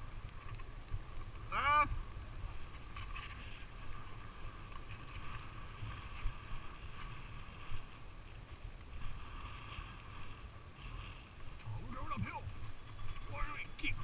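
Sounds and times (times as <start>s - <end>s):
skis sliding on packed snow: 0.0s - 14.0s.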